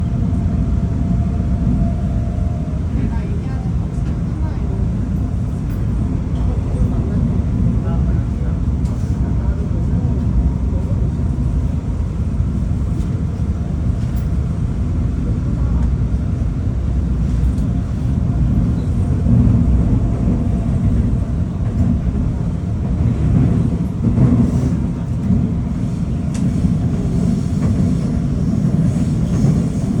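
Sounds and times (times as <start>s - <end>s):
subway train rumbling: 0.0s - 30.0s.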